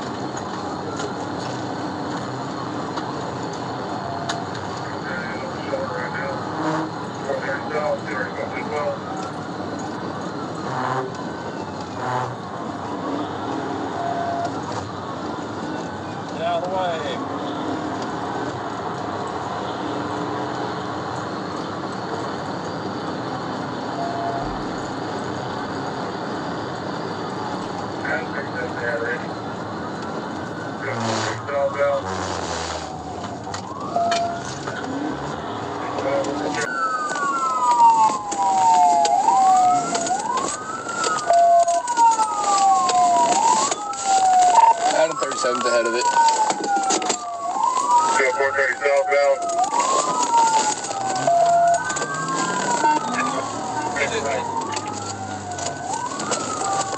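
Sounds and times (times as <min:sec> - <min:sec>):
police sirens wailing: 0:00.0 - 0:56.9
road and wind noise inside car: 0:00.0 - 0:56.9.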